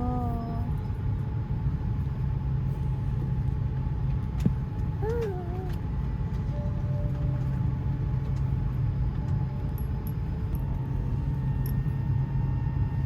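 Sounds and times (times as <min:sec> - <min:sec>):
airliner cabin drone: 0:00.0 - 0:13.0
faint whining tones: 0:00.0 - 0:13.0.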